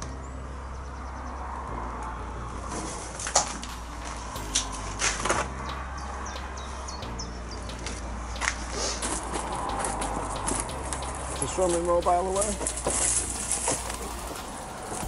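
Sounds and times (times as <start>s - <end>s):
low rumble: 1.7s - 15.0s.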